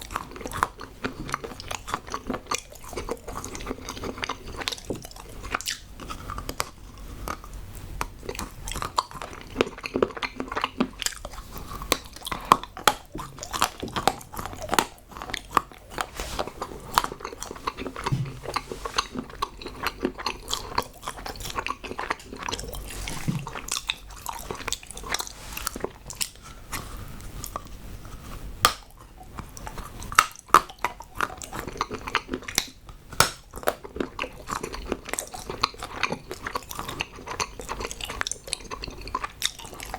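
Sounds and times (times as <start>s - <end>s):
chewing hard chocolate: 0.0s - 39.9s.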